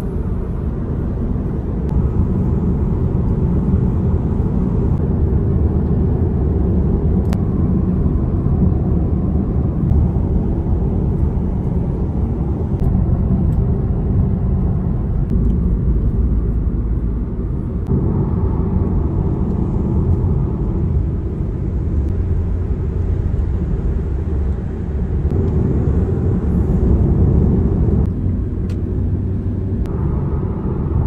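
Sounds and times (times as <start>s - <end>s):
car cabin road and engine noise: 0.0s - 31.0s.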